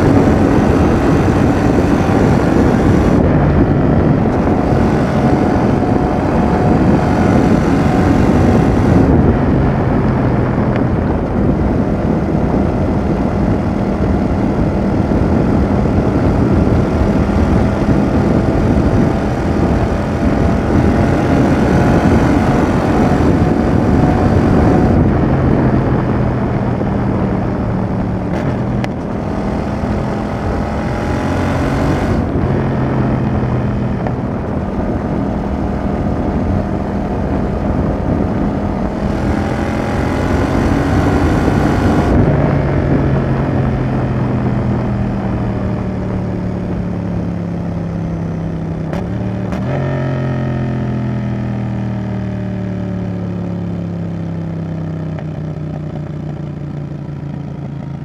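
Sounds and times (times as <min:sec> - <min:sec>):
wind noise: 0:00.0 - 0:52.3
motorcycle engine revving: 0:00.0 - 0:58.0.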